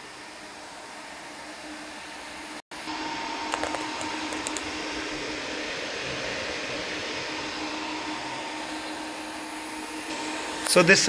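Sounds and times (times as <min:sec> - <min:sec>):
computer cooling fans whooshing: 0:00.0 - 0:11.0.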